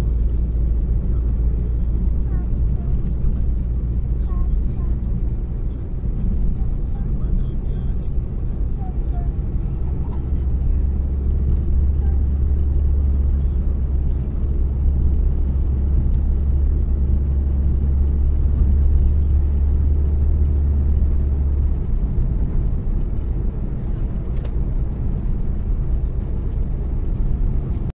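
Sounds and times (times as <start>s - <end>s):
car engine and road noise: 0.0s - 27.9s
deep drone: 0.0s - 27.9s.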